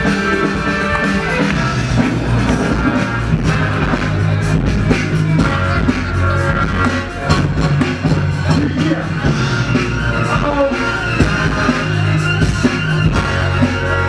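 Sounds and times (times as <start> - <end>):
loud band music with drums: 0.0 - 14.0.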